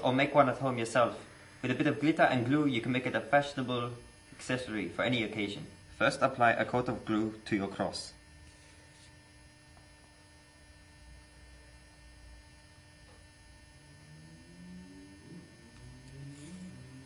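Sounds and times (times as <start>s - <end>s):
faint electrical mains hum: 0.0s - 17.0s.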